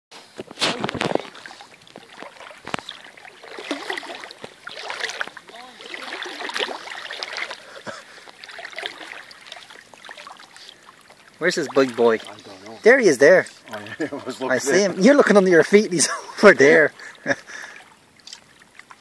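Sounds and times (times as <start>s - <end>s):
river water splashing: 0.2s - 19.0s.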